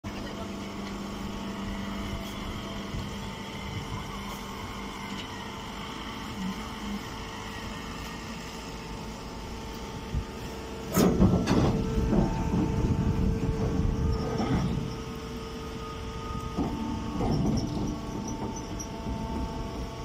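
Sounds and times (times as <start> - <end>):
hay baler motor humming: 0.1 - 20.0.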